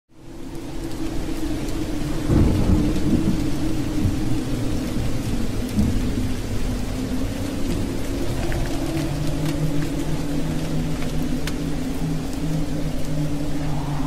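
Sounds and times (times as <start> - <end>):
steady rain hissing: 0.1 - 14.0
low steady drone: 0.2 - 14.0
thunder rumble: 0.2 - 14.0.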